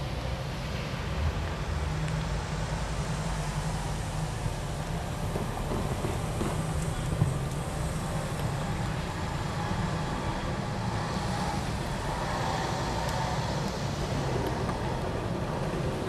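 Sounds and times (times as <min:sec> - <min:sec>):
truck rumbling along rails: 0:00.0 - 0:16.0.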